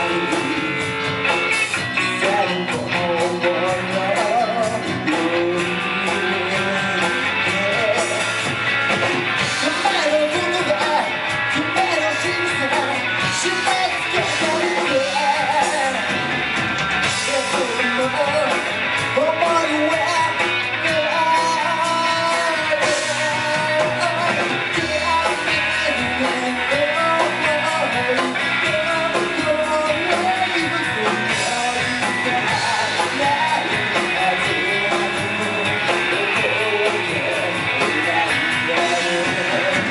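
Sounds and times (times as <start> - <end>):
person singing: 0.0 - 1.2, 1.8 - 8.5, 9.4 - 16.3, 17.0 - 39.9
electric guitar: 0.0 - 39.9
rock band playing: 0.0 - 39.9.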